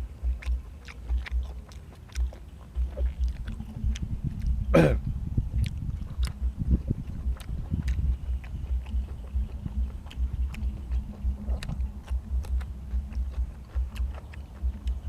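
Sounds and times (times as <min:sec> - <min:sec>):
person chewing food: 0:00.0 - 0:15.0
wet mouth clicks: 0:00.0 - 0:15.0.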